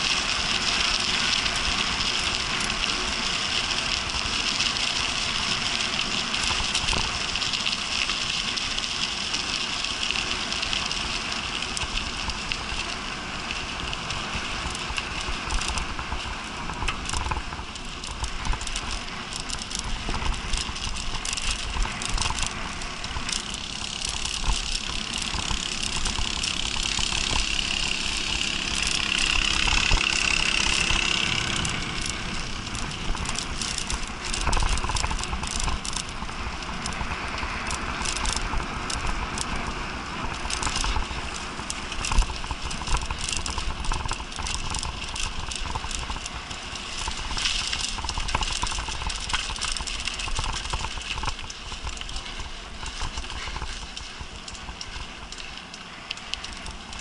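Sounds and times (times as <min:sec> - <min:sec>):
bike rattling over bumps: 0:00.0 - 0:57.0
bike tyres rolling on gravel: 0:00.0 - 0:57.0.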